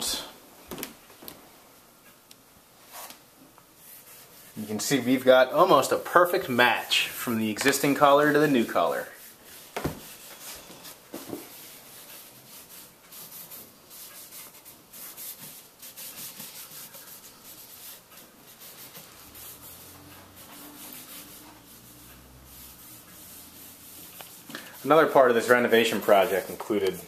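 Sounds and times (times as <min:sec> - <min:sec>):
hand rubbing on wood: 0:03.8 - 0:27.0.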